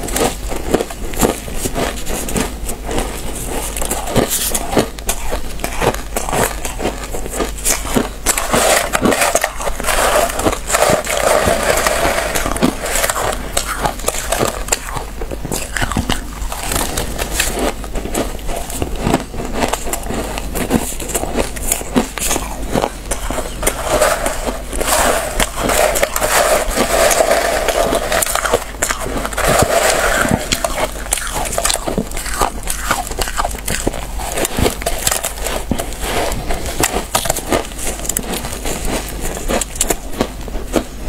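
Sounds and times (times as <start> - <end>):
hands grinding ice in metal tray: 0.0 - 40.9
ice being chewed: 0.0 - 41.0.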